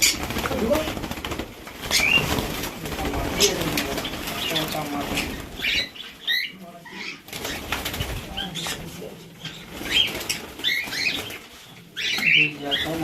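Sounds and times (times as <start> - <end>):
birds fluttering wings: 0.0 - 6.4, 7.0 - 13.0
birds chirping: 0.0 - 13.0.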